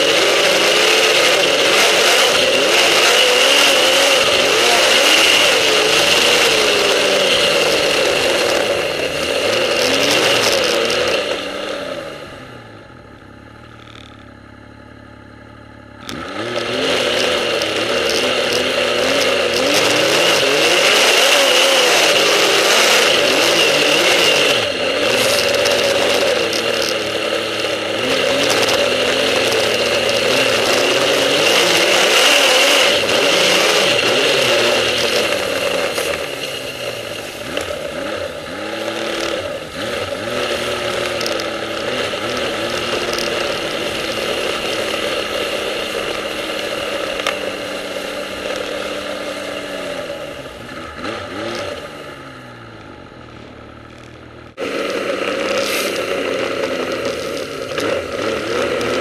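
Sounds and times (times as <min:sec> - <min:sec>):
snowmobile engine running hard: 0:00.0 - 0:13.8, 0:16.0 - 0:53.8, 0:54.5 - 0:59.0.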